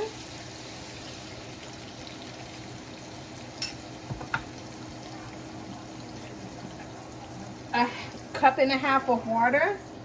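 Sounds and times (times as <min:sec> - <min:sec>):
marinade sizzling in a pan: 0:00.0 - 0:10.0.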